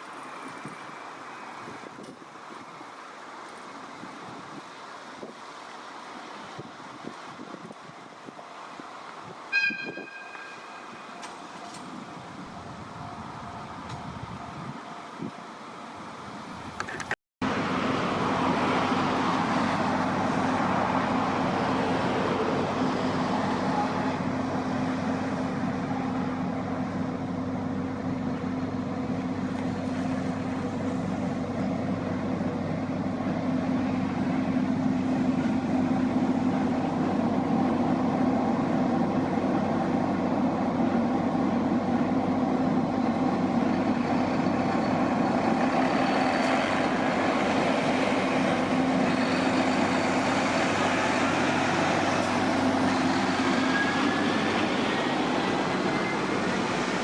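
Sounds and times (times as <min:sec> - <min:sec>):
diesel engine running: 0:10.8 - 0:57.0.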